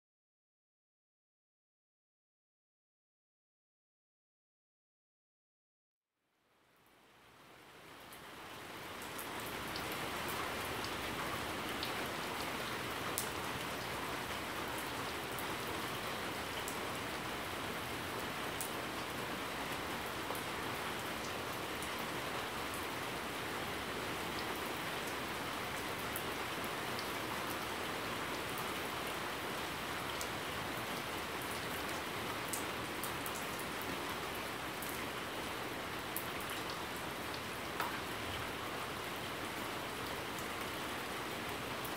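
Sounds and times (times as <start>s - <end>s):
rain falling: 6.5s - 41.9s.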